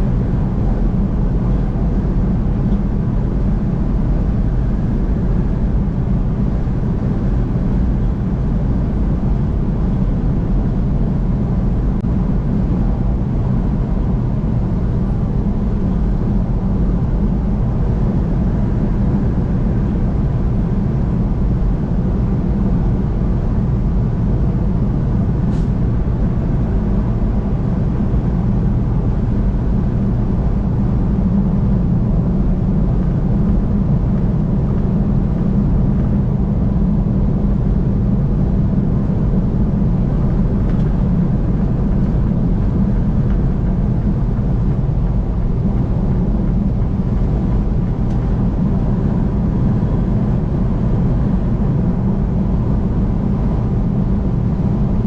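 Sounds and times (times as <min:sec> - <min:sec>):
car driving at highway speed: 0:00.0 - 0:55.0.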